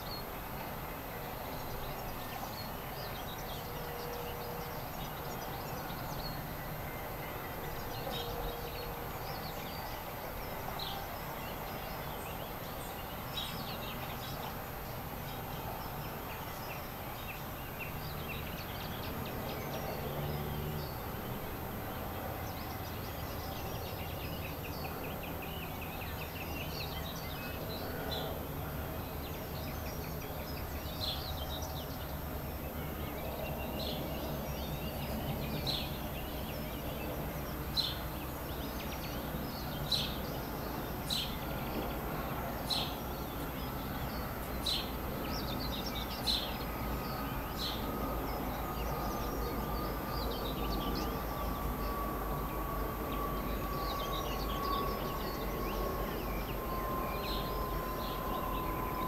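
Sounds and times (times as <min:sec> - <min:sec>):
low outdoor background hum: 0:00.0 - 0:59.0
wild birds singing and calling: 0:01.3 - 0:59.0.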